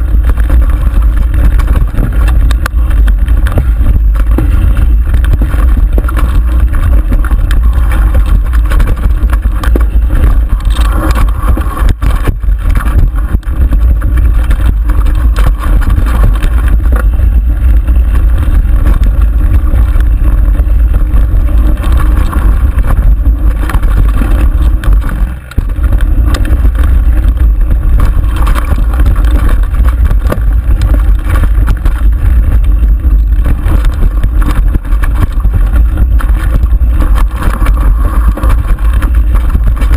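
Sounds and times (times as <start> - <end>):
bike rattling and knocking: 0.0 - 39.9
tyre noise on dirt: 0.0 - 39.9
wind buffeting microphone: 0.0 - 39.9.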